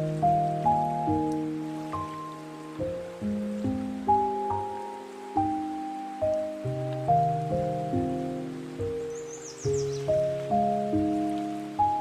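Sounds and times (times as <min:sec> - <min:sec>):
gentle melody of struck notes: 0:00.0 - 0:12.0.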